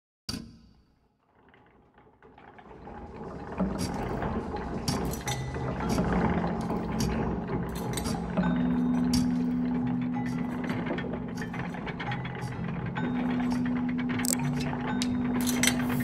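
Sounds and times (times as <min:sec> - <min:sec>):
clicks of turning gears: 0:01.5 - 0:16.0.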